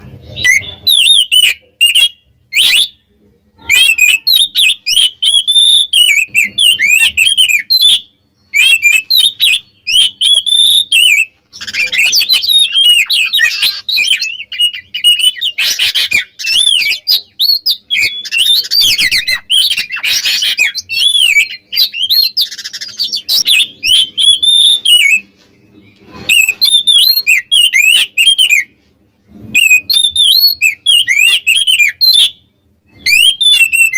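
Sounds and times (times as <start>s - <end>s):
magpie-robin singing: 0.0s - 28.8s, 29.5s - 33.9s.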